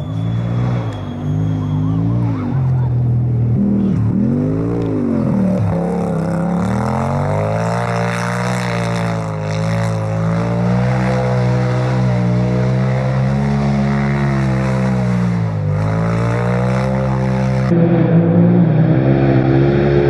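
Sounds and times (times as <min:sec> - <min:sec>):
engine revving and accelerating: 0:00.0 - 0:20.0.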